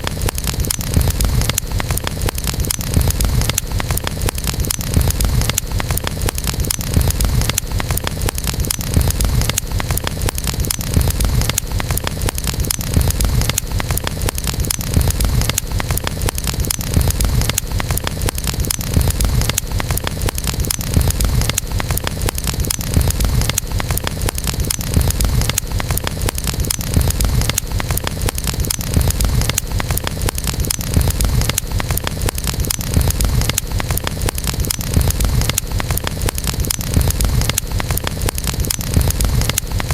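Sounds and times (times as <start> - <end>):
campfire crackling and popping: 0.0 - 39.9
fire low rumble: 0.1 - 39.9.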